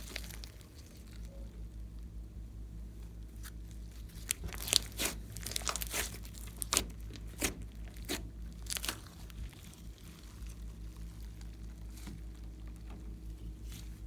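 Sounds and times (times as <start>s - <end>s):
slime crackling and popping: 0.0s - 2.1s, 3.3s - 14.0s.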